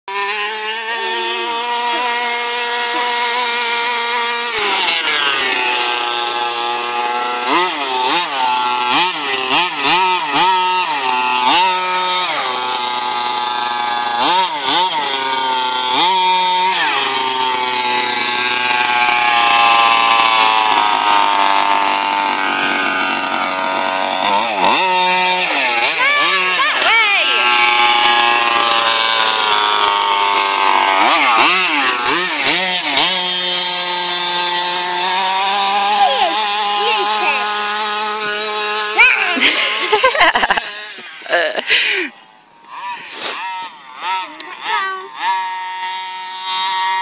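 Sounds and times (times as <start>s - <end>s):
small two-stroke engine revving: 0.0s - 47.0s.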